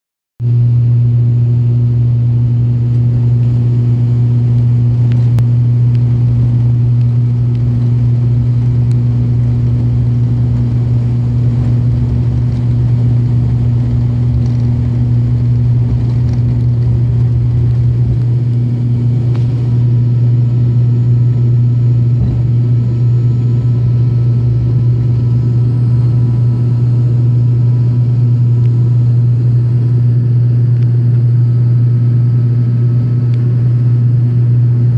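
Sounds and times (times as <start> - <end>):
propeller engine drone: 0.4 - 34.9.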